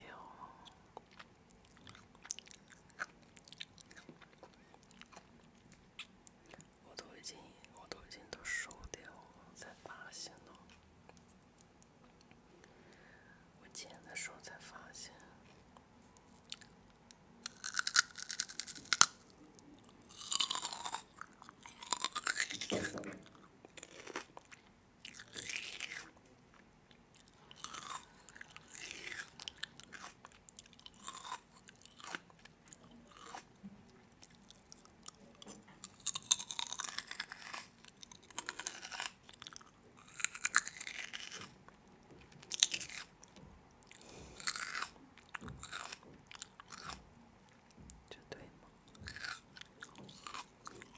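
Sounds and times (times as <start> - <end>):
chewing crunchy food: 0.6 - 7.1, 15.2 - 48.0, 48.9 - 50.9.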